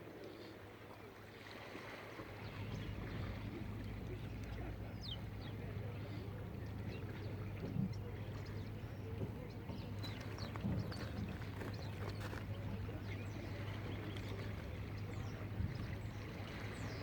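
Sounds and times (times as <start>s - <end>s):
outdoor background noise: 0.0s - 17.0s
boat engine humming: 2.4s - 17.0s.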